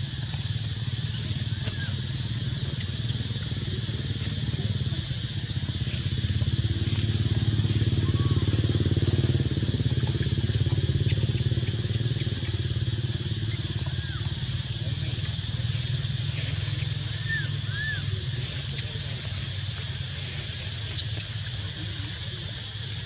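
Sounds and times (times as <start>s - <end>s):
engine running with low pulse: 0.0s - 23.0s.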